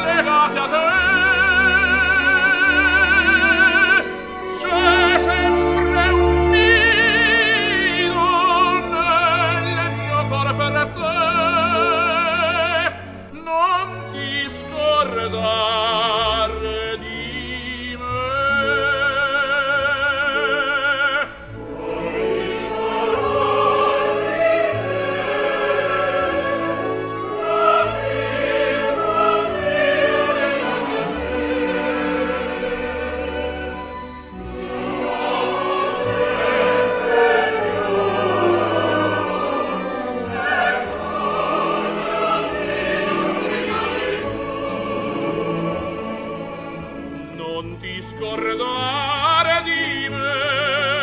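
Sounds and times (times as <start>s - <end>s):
operatic vibrato singing: 0.0s - 51.0s
orchestra playing: 0.0s - 51.0s.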